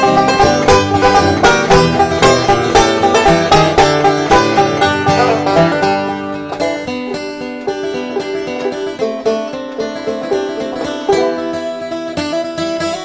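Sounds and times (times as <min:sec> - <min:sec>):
acoustic guitar picking: 0:00.0 - 0:13.0
banjo picking: 0:00.0 - 0:13.0.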